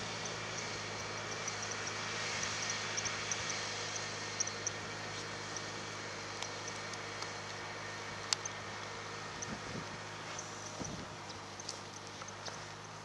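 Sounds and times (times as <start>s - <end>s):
tractor engine running under load: 0.0s - 13.0s.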